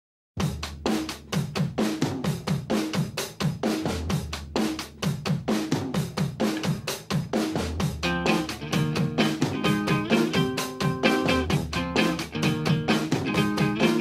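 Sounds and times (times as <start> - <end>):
drum kit beat: 0.4 - 14.0.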